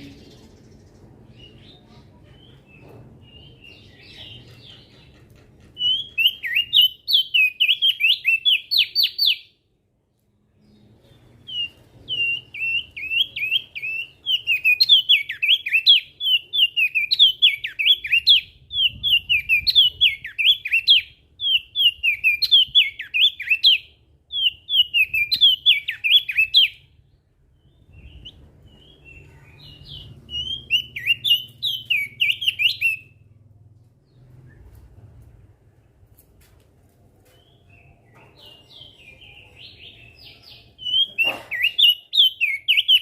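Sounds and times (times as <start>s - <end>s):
bird singing high chirps: 0.0s - 9.6s, 10.5s - 33.3s, 37.3s - 43.0s.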